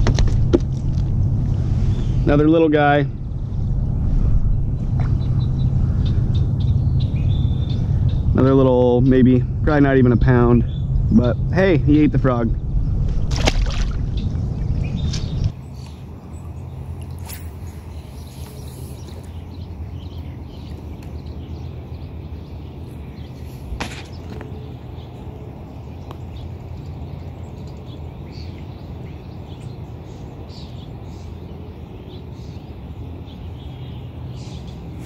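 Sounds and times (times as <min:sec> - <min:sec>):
steady low rumble: 0:00.0 - 0:30.4
birds chirping faintly: 0:01.4 - 0:35.0.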